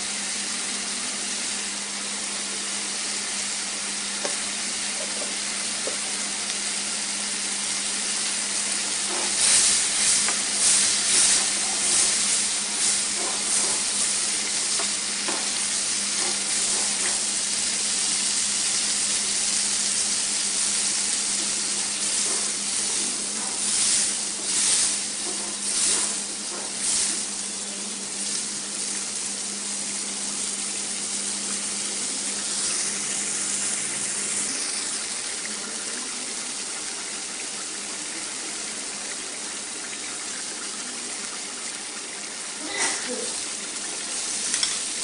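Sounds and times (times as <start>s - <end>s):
spices sizzling in hot oil: 0.0s - 45.0s.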